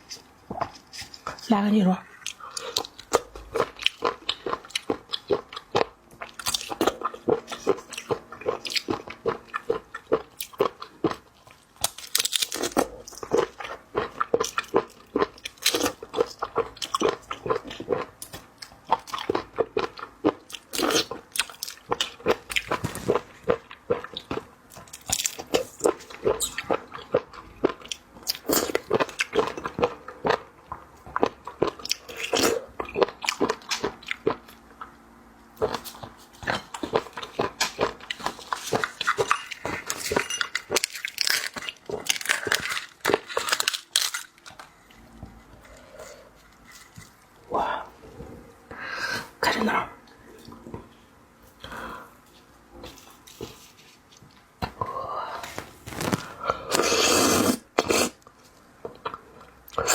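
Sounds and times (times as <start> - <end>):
crunching and chewing: 0.0 - 48.4, 50.1 - 59.9.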